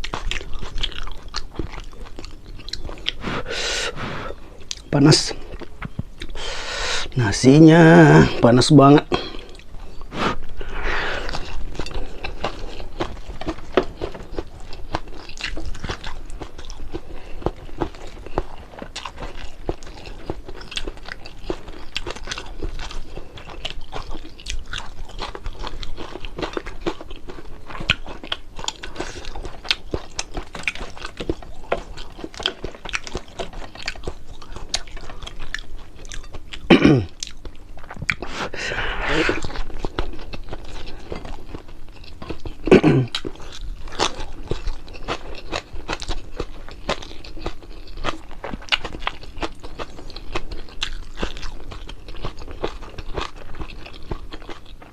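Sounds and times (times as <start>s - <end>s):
chewing crispy fried fish: 0.0s - 54.9s.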